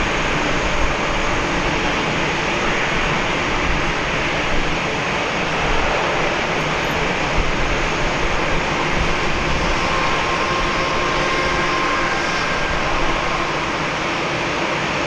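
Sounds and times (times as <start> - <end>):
faint engine whine: 0.0 - 15.0
jet engines idling: 0.0 - 15.0.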